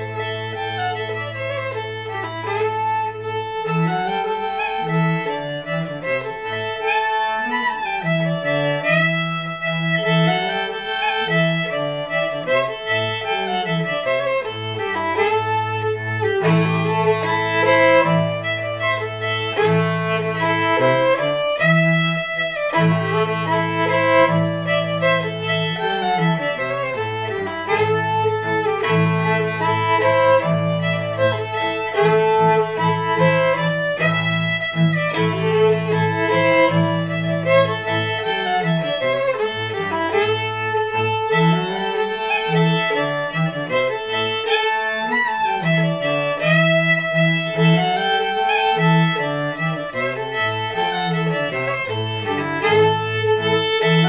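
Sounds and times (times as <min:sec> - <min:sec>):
bowed cello: 0:00.0 - 0:54.0
fiddle melody: 0:00.0 - 0:54.0.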